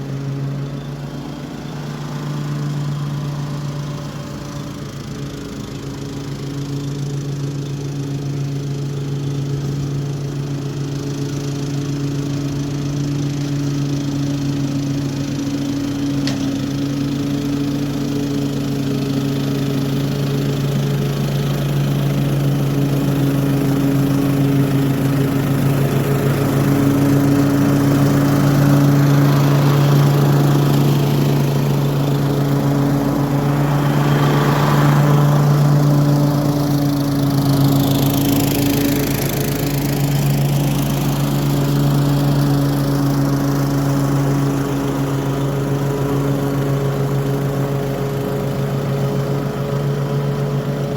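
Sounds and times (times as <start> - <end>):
lawn mower running: 0.0 - 50.9.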